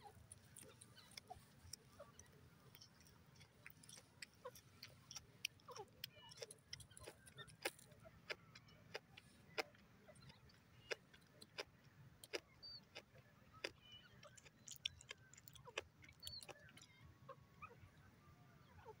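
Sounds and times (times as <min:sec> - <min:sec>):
bird clicking clucks: 0:00.0 - 0:17.0
small birds chirping: 0:00.0 - 0:19.0.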